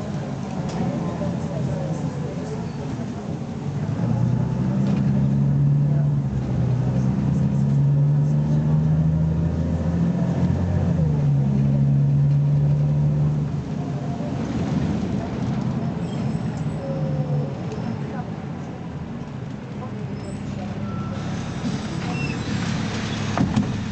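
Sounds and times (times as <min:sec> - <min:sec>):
bus engine accelerating: 0:00.0 - 0:23.9.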